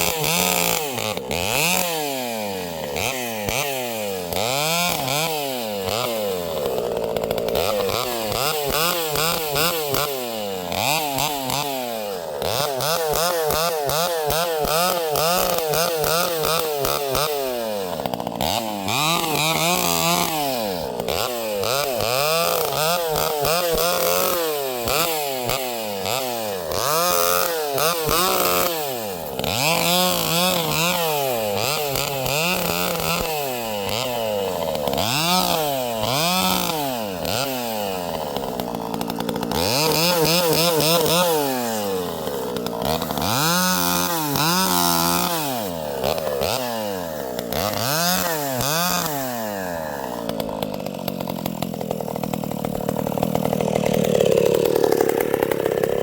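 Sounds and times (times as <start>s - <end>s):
chainsaw running hard: 0.0s - 56.0s.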